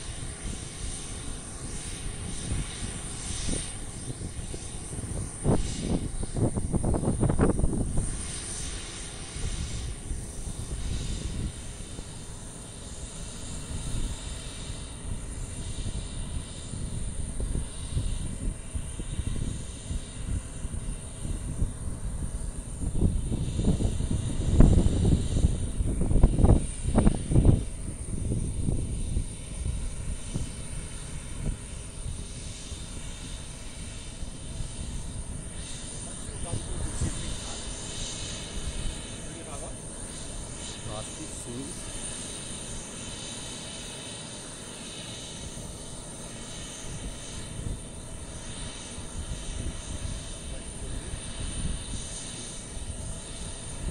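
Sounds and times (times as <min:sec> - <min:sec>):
high engine whine: 0:00.0 - 0:53.9
jet engines rumbling: 0:00.0 - 0:53.9.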